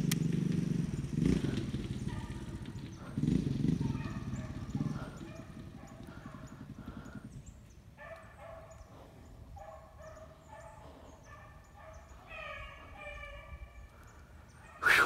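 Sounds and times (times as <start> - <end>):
dogs baying in the distance: 0.8 - 15.0.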